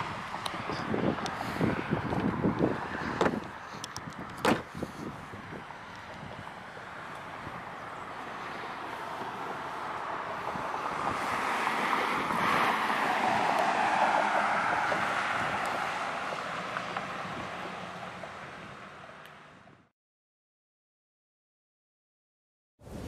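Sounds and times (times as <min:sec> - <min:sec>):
vehicle tyre and road noise: 0:00.0 - 0:19.9.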